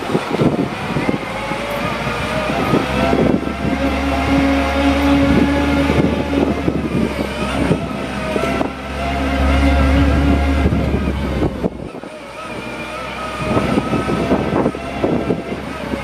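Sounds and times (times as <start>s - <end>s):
diesel engine running: 0.0s - 16.0s
hydraulic whine: 0.0s - 16.0s.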